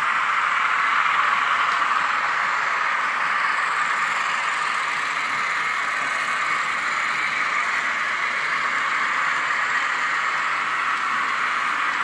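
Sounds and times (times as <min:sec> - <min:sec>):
recorded diesel engine drone: 0:00.0 - 0:12.0.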